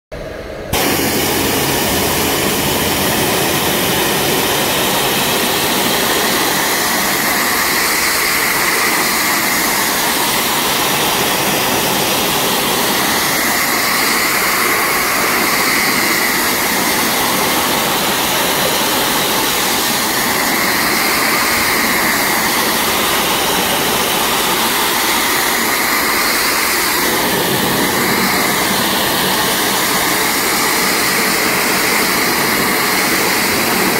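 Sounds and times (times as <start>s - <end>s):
pressure washer jet hissing: 0.7s - 33.9s.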